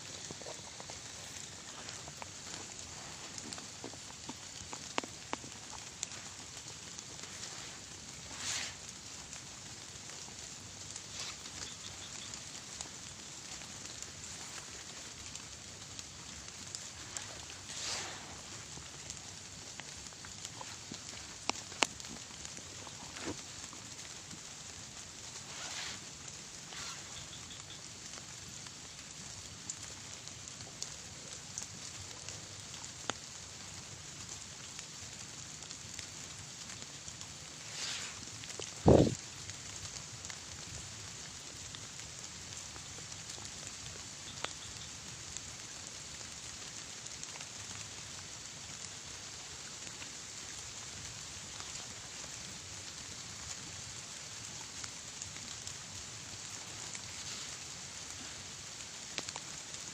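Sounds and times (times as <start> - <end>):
light rain hissing: 0.0 - 59.9.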